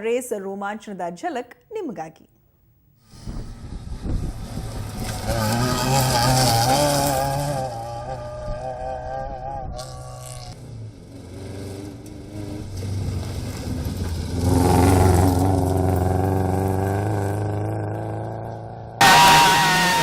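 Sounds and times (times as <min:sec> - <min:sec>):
rally car engine passing: 0:03.3 - 0:20.0.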